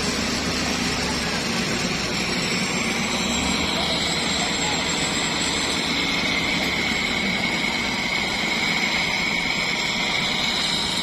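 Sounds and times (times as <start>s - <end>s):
heavy machinery engine drone: 0.0s - 11.0s
steady high whine: 0.0s - 11.0s.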